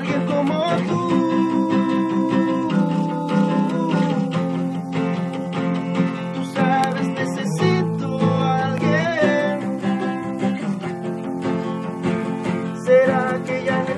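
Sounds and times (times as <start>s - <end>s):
acoustic guitar chords: 0.0s - 13.9s.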